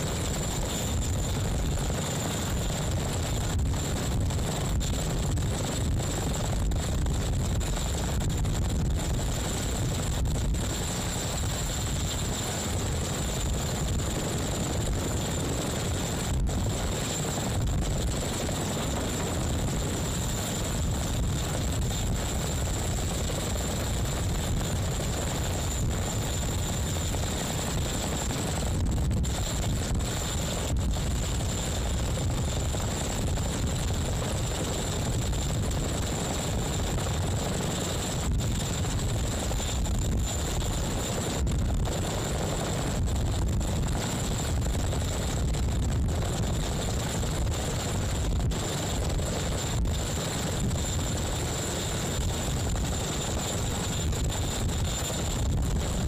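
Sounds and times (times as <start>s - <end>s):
helicopter hovering: 0.0s - 56.0s.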